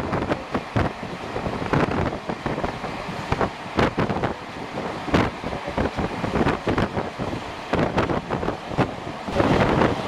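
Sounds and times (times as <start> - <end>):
train clattering and rattling: 0.0 - 10.0
train rumble: 0.0 - 10.0
wind noise: 0.0 - 10.0.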